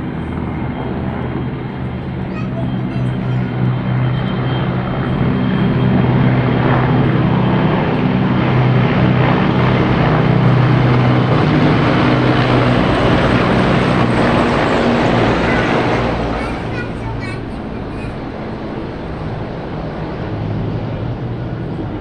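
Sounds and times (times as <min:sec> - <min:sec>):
helicopters flying overhead: 0:00.0 - 0:22.0.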